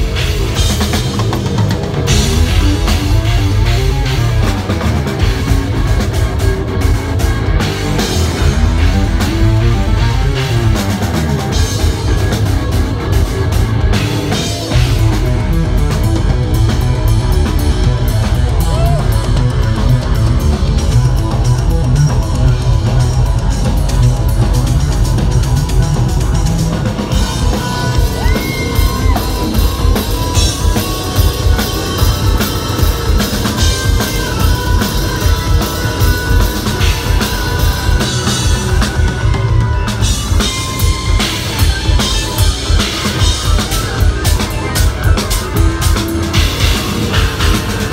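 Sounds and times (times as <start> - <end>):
fast even drum beats: 0.0 - 47.9
loud live metal band: 0.0 - 47.9.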